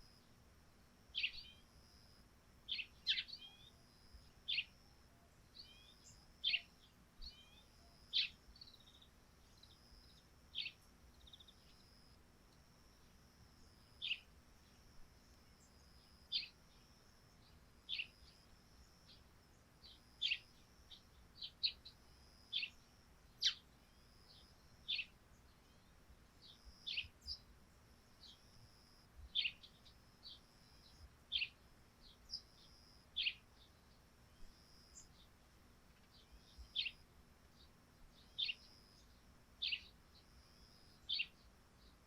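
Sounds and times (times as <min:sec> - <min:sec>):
sparrows chirping: 0:01.1 - 0:01.8, 0:02.6 - 0:12.0, 0:13.0 - 0:42.0.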